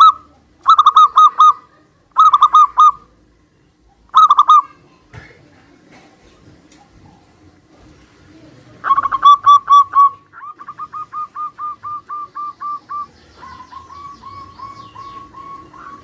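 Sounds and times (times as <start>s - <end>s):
doves cooing: 0.0s - 3.3s, 4.0s - 4.7s, 5.5s - 16.0s.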